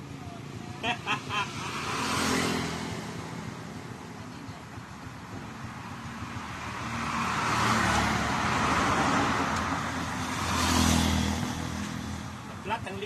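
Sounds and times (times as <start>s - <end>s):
hum of passing traffic: 0.0s - 13.0s
vehicle passing by: 1.1s - 12.6s.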